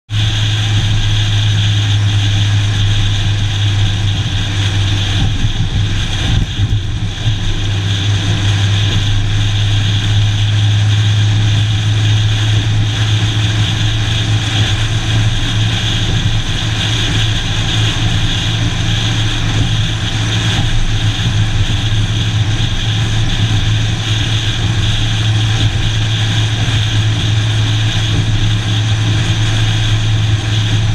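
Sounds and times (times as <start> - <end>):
vehicle engine and tyre noise: 0.1 - 30.9
wind rumble on microphone: 0.1 - 30.9.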